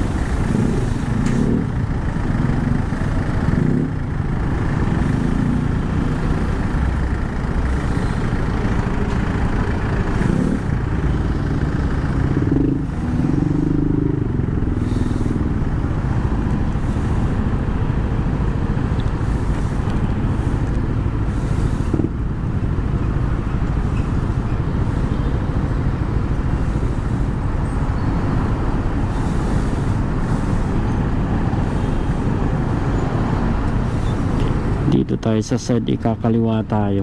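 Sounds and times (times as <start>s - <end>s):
scooter engine and road noise: 0.0s - 37.0s
surrounding cars and trucks: 0.0s - 37.0s.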